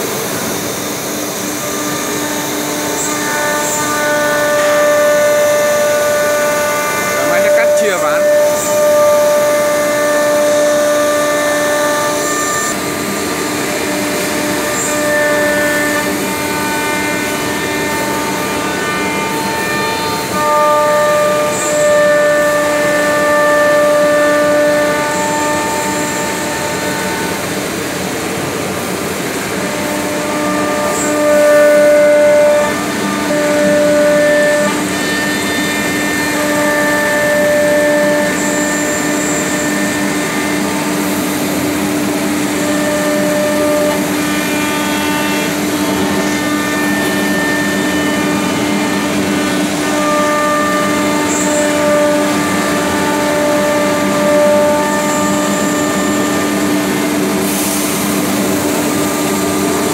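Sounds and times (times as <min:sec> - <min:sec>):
cnc router machine whine: 0:00.0 - 0:59.9.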